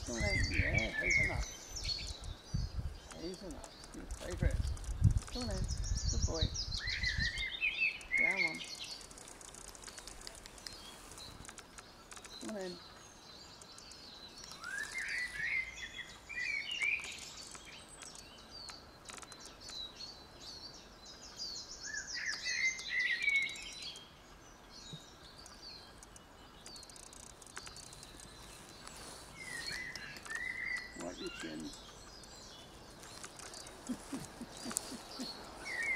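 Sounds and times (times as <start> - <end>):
songbird singing: 0.0 - 35.9.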